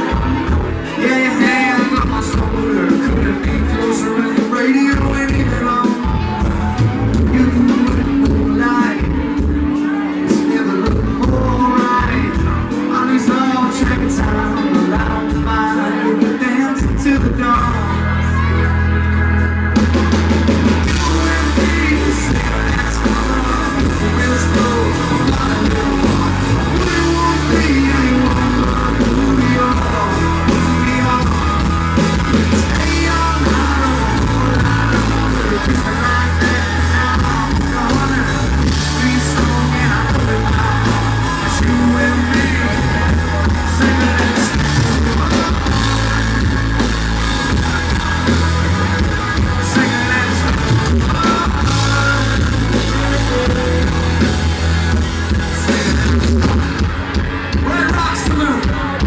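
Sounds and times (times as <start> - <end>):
live country band with singer: 0.0 - 59.0.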